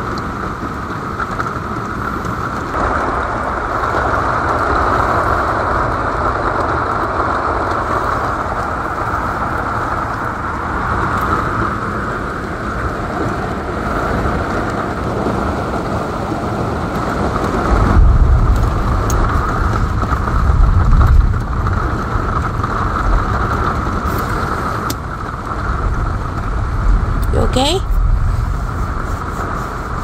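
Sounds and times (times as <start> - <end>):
heavy rain on a vehicle roof: 0.0 - 30.0
deep rumbles: 1.6 - 30.0.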